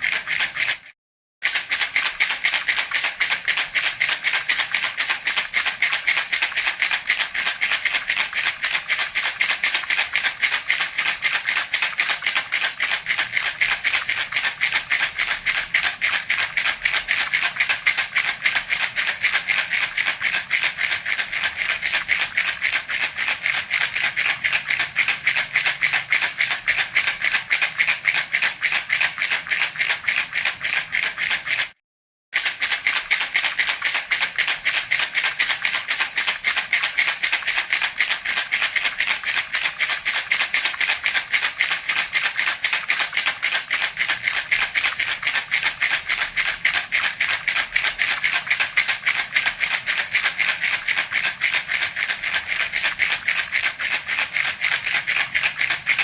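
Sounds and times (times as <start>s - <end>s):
baby rattle shaken: 0.0s - 31.8s, 32.4s - 56.0s.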